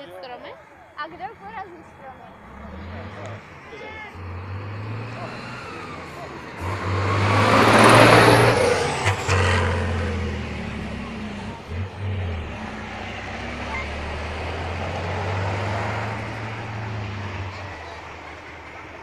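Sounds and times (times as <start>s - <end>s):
truck diesel engine under throttle: 1.2s - 19.0s.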